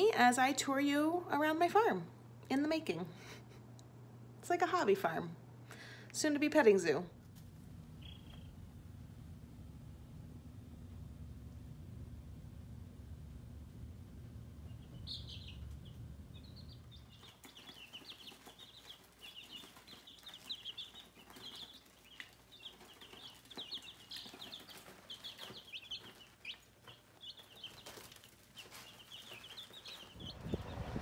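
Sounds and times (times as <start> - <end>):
baby chicks peeping: 4.6 - 31.0.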